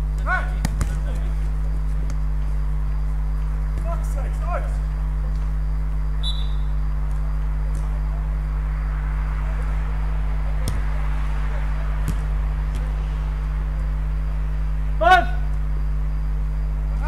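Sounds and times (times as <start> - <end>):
low electrical hum with hiss: 0.0 - 17.0.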